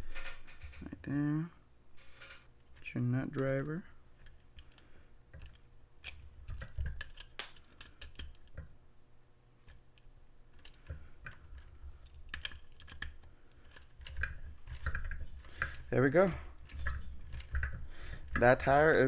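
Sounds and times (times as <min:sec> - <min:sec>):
small parts clicking and rattling: 0:00.0 - 0:00.9, 0:02.0 - 0:08.8, 0:09.6 - 0:19.0.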